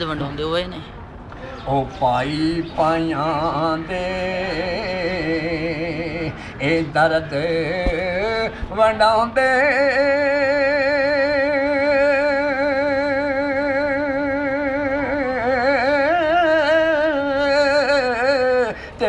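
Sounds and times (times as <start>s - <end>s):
elderly man singing unaccompanied: 1.6s - 19.0s.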